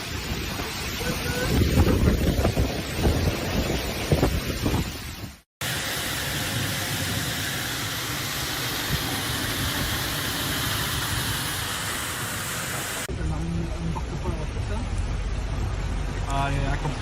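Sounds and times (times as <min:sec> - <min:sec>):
rushing storm water: 0:00.0 - 0:17.0.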